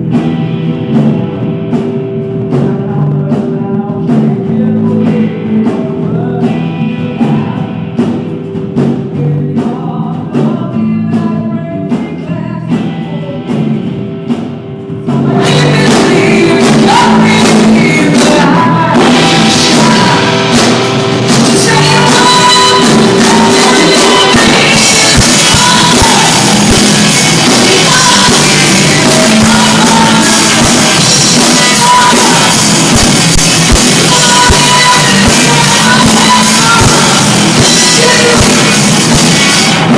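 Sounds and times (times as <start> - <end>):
distorted live pop-rock band: 0.0 - 39.9
drums: 0.0 - 39.9
person singing: 2.2 - 39.9.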